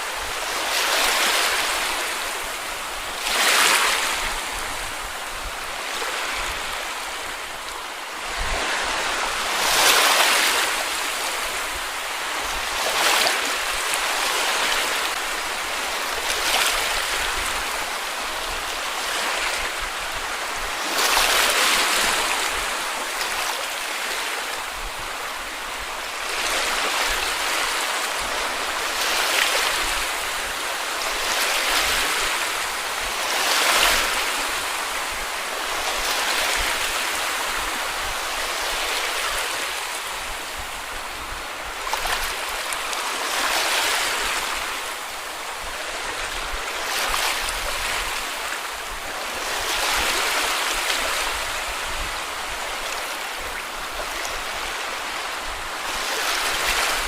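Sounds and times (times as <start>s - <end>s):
waves breaking on beach: 0.0s - 57.0s.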